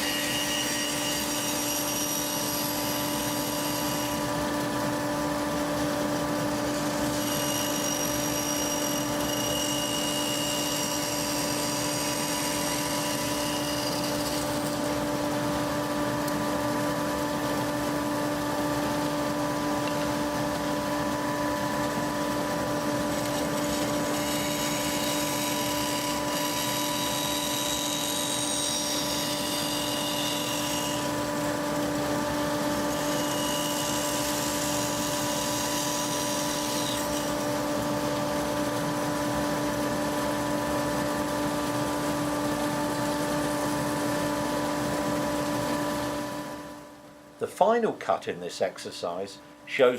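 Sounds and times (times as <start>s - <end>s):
saw blade whining through wood: 0.0s - 48.2s
bandsaw humming: 0.0s - 49.9s.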